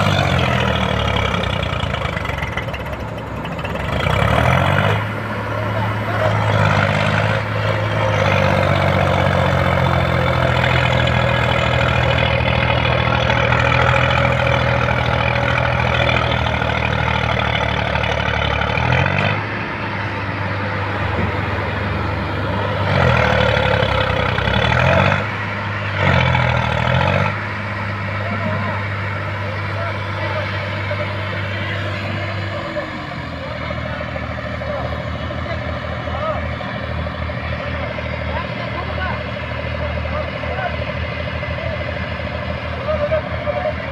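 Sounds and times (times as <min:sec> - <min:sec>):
heavy diesel engines under load: 0:00.0 - 0:43.9.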